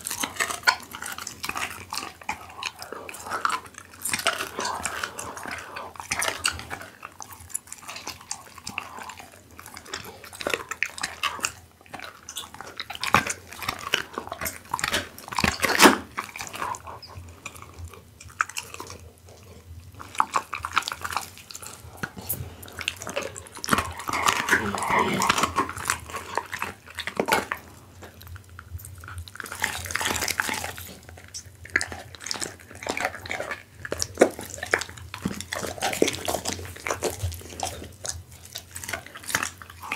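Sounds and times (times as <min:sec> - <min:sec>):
dog chewing raw meat: 0:00.0 - 0:39.9.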